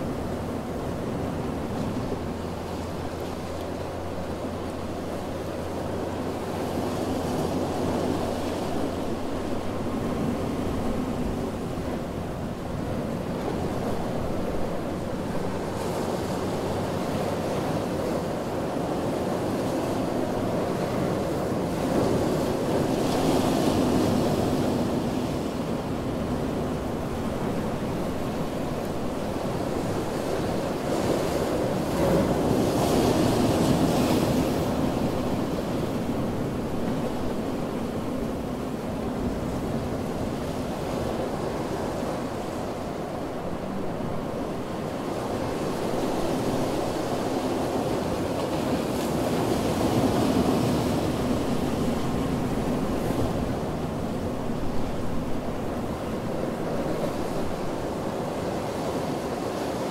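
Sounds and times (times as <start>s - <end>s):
ocean surf washing onto beach: 0.0s - 59.9s
waves breaking: 0.0s - 59.9s.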